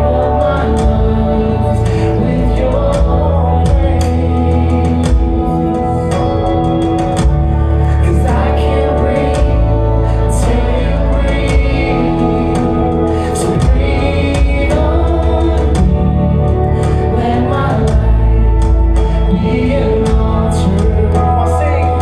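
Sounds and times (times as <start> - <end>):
gospel praise music: 0.0 - 22.0
voices singing: 0.0 - 22.0.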